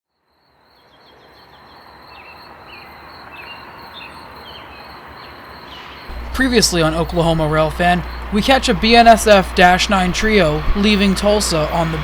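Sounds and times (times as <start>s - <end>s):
background noise: 0.1s - 11.8s
crickets droning: 0.2s - 12.0s.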